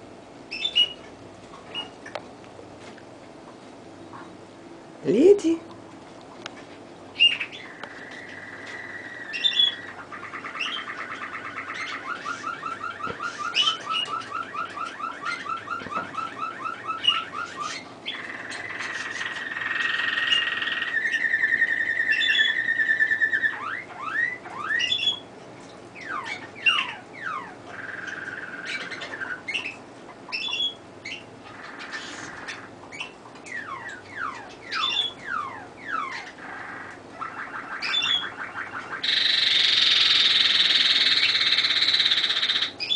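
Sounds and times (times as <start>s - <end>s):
canary singing: 0.0s - 2.2s, 7.0s - 25.3s, 25.9s - 42.9s.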